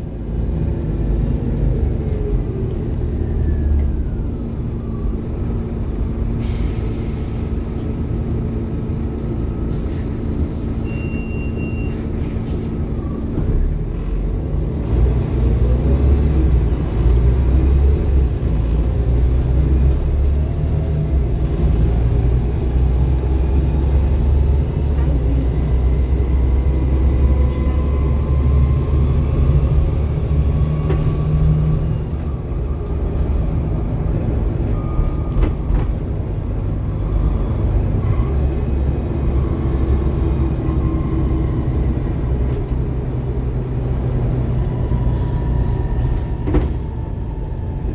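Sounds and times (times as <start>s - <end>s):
bus diesel engine running: 0.0s - 47.9s.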